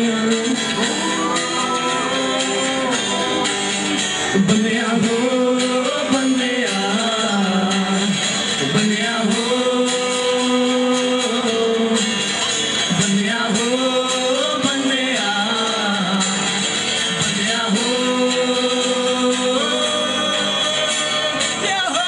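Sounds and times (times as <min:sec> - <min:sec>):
acoustic guitars strummed: 0:00.0 - 0:22.0
man singing: 0:00.0 - 0:22.0.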